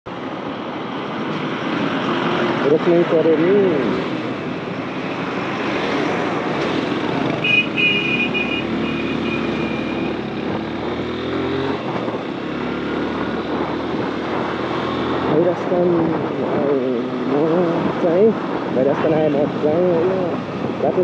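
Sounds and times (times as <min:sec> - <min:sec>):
wind and road rush: 0:00.1 - 0:21.0.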